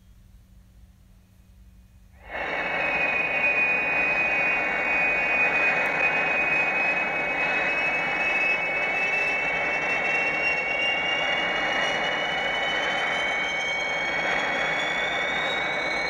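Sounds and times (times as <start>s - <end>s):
high whine rising in pitch: 2.2s - 16.0s
rushing noise: 2.2s - 16.0s.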